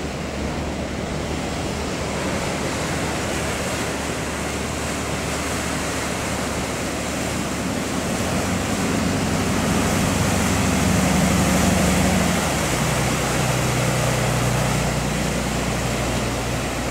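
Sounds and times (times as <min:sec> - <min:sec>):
boat engine running hard: 0:00.0 - 0:16.9
surf and sea noise: 0:00.0 - 0:16.9.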